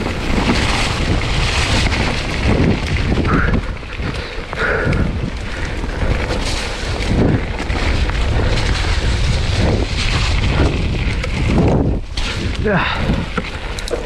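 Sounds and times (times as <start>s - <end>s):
mountain bike rolling on trail: 0.0s - 14.0s
wind buffeting microphone: 0.0s - 14.0s.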